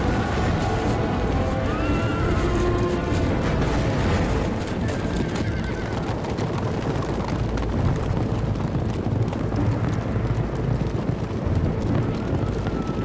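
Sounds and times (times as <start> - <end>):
horses galloping hoofbeats: 0.0 - 13.0.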